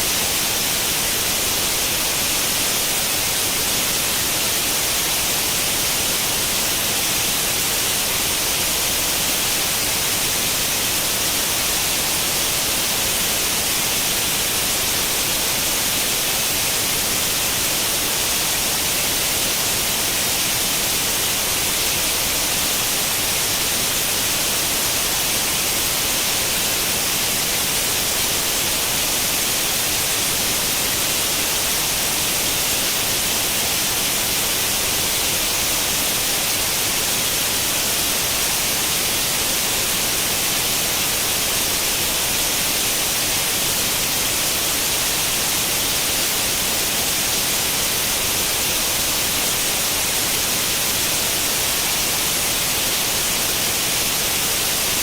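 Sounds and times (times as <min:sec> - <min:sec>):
white noise static hiss: 0:00.0 - 0:55.0.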